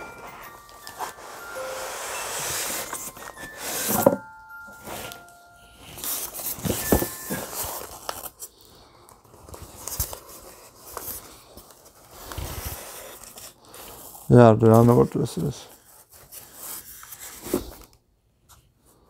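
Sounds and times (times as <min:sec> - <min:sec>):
packing paper rustling: 0:00.0 - 0:18.0.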